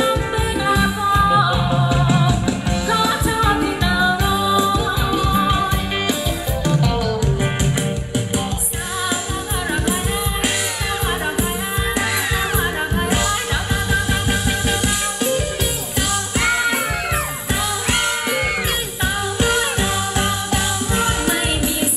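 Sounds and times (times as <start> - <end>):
live dance band music: 0.0 - 21.9.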